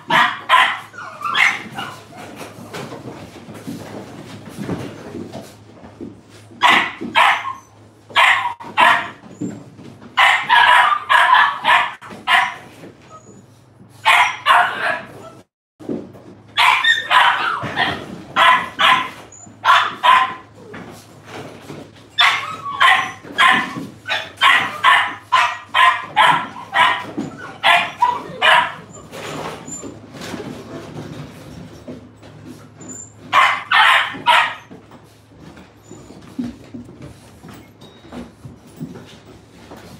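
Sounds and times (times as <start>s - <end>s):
young dogs yapping and barking: 0.0s - 3.4s, 6.5s - 15.5s, 16.5s - 38.2s.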